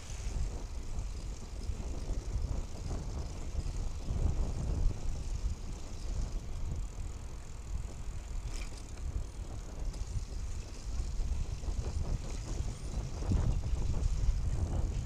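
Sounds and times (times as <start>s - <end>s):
bicycle tyres on asphalt: 0.0s - 15.0s
wind buffeting microphone: 0.0s - 15.0s.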